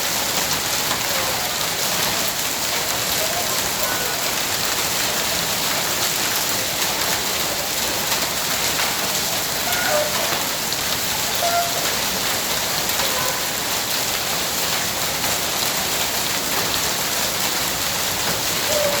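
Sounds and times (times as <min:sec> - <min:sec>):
rain and hail pelting: 0:00.0 - 0:19.0.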